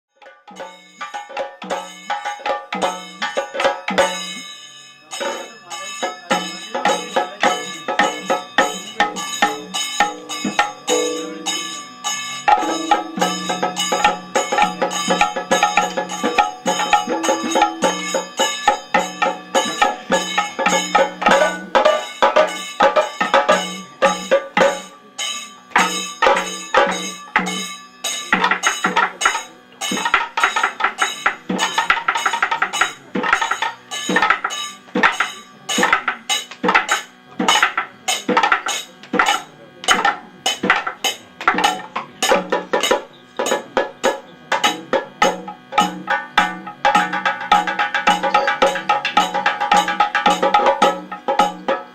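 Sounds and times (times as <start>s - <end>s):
ringing metallic strikes: 0.2s - 51.9s
fast drum strokes: 5.1s - 51.9s.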